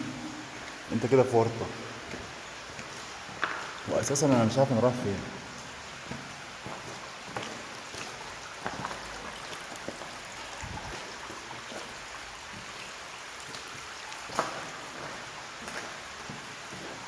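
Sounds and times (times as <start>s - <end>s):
stream water running: 0.0s - 17.0s.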